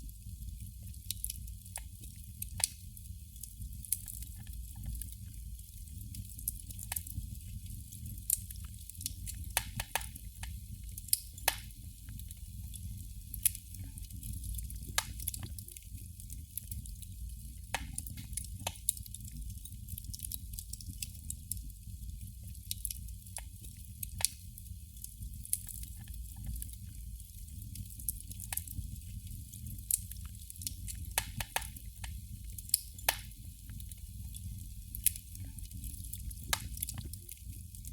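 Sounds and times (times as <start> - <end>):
candle crackling: 0.0 - 37.9.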